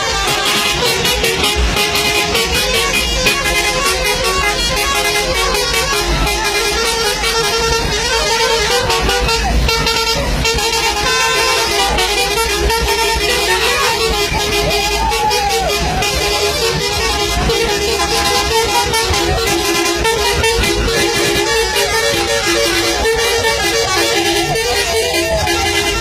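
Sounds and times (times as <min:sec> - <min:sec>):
bus musical horn: 0:00.0 - 0:26.0.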